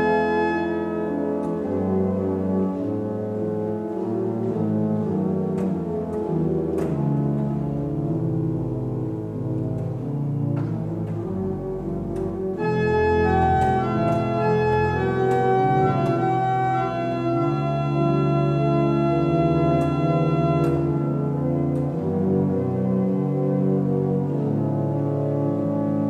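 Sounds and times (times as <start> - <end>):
church organ playing chords: 0.0 - 26.0.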